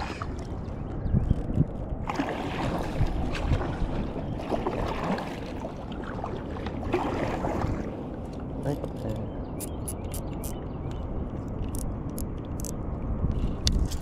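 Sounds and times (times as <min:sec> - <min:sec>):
water noise: 0:00.0 - 0:14.0
wind rumble on microphone: 0:00.0 - 0:14.0.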